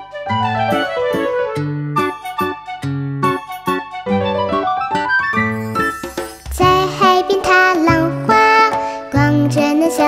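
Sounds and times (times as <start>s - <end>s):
keyboard melody: 0.0s - 9.6s.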